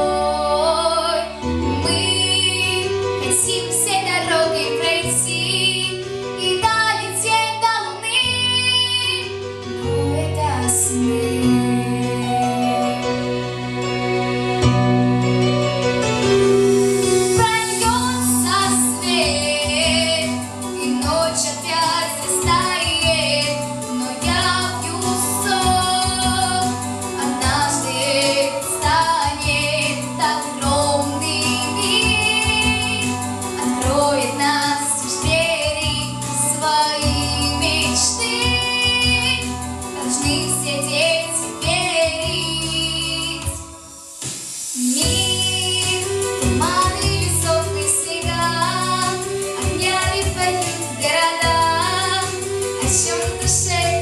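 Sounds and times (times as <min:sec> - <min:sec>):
woman singing with vibrato: 0:00.0 - 0:09.3, 0:09.9 - 0:13.3, 0:17.2 - 0:43.8, 0:44.8 - 0:54.0
instrumental backing track: 0:00.0 - 0:54.0.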